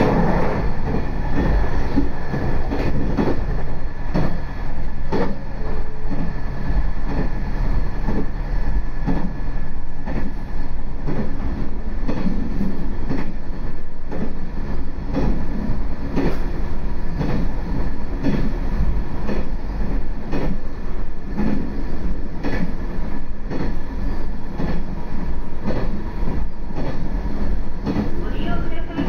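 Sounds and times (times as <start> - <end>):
railcar engine drone: 0.0 - 29.0.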